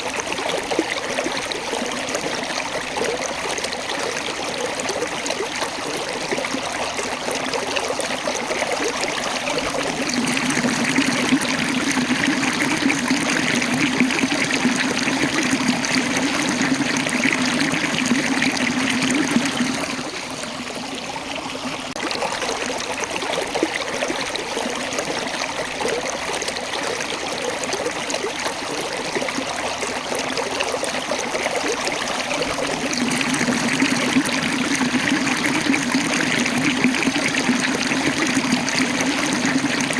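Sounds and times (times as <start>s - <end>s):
stream water splashing over rocks: 0.0s - 39.9s.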